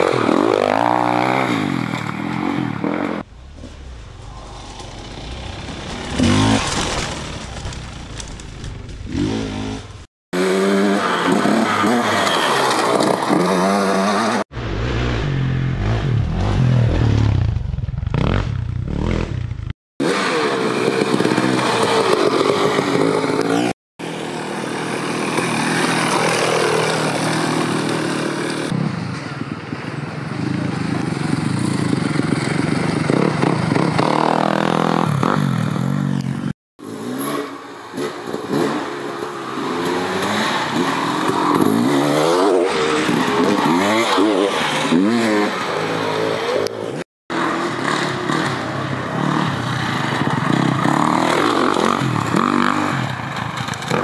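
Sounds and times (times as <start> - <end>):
dirt bike engines revving: 0.0 - 17.4, 18.1 - 28.8, 30.2 - 54.0.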